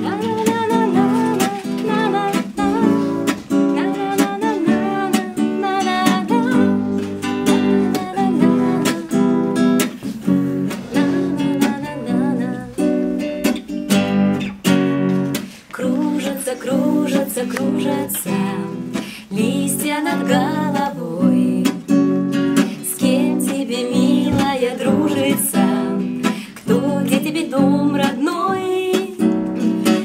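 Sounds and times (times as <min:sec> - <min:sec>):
woman singing: 0:00.0 - 0:10.0, 0:10.6 - 0:13.6, 0:15.7 - 0:30.0
strummed nylon-string guitar: 0:00.0 - 0:30.0.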